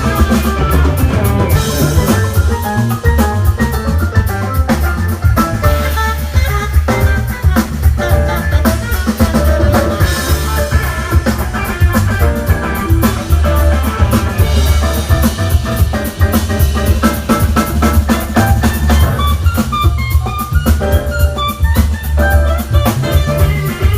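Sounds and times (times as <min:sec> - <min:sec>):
drum kit: 0:00.0 - 0:23.9
electric bass: 0:00.0 - 0:23.9
live band playing: 0:00.0 - 0:23.9.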